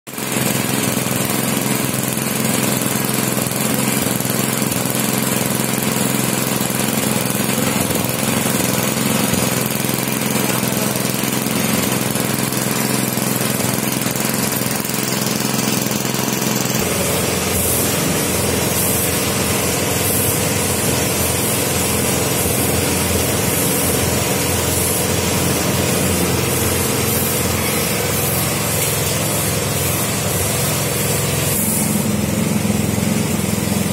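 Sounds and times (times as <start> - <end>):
air compressor running: 0.1 - 33.9
spray gun hissing: 0.2 - 33.9.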